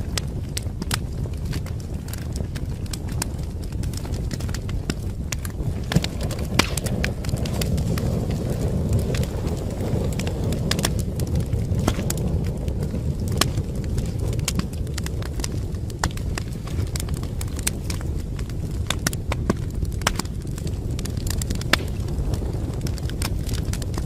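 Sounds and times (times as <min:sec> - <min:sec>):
fire crackling: 0:00.0 - 0:24.0
low rush of flames: 0:00.0 - 0:24.0.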